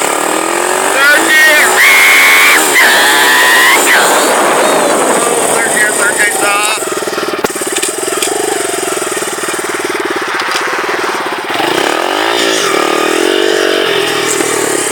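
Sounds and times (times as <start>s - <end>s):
dirt bike engine running: 0.0s - 14.9s.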